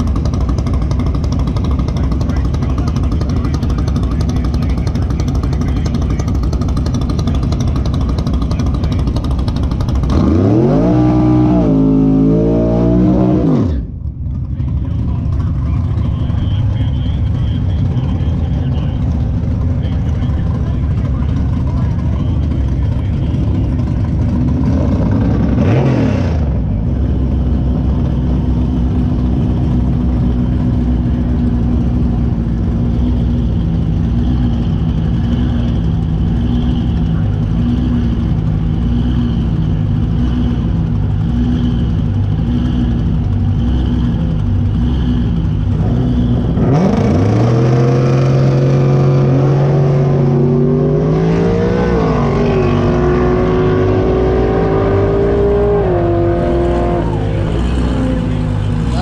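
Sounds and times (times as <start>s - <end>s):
engine revving: 0.0s - 59.0s
race car engines idling: 0.0s - 59.0s.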